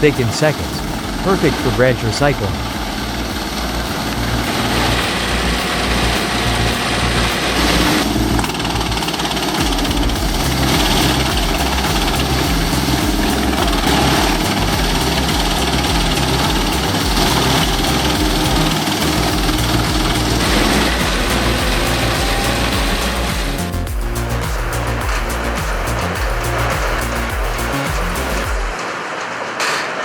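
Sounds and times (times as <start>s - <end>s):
wood crusher engine throbbing: 0.0s - 28.9s
wood chipper running: 0.0s - 29.3s.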